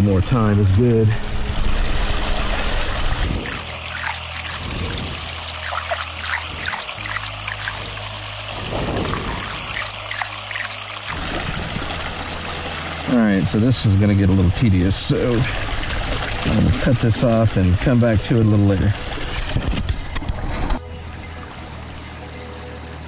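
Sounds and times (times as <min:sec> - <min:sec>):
water pouring and splashing: 0:01.6 - 0:20.8.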